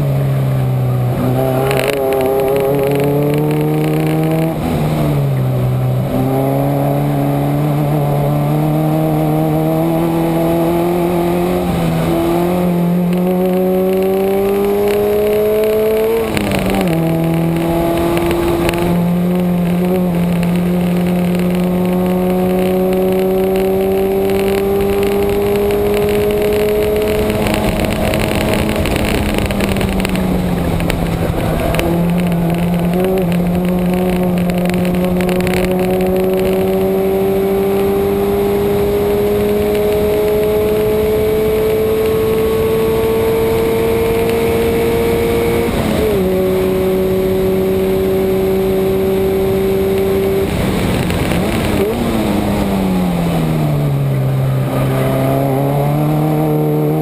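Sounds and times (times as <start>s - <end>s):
car engine at full throttle: 0.0s - 57.0s
road and wind noise: 0.0s - 57.0s.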